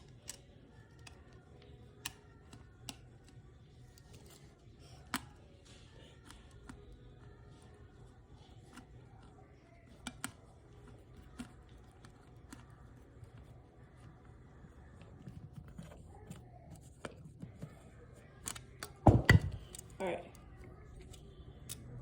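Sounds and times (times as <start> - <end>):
faint clicks and scrapes of screwdriver: 0.0 - 19.0, 19.7 - 22.0.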